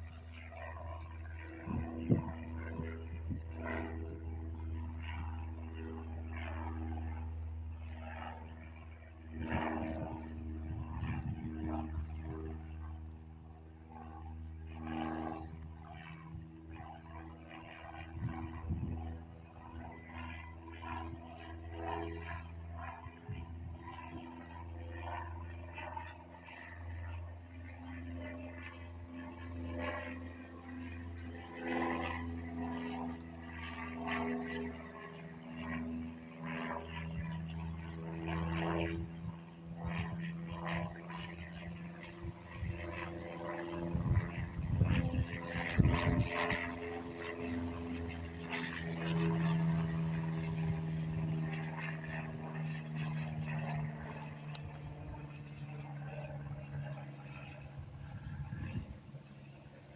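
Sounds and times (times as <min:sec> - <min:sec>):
airplane engine drone: 0:00.0 - 0:59.9.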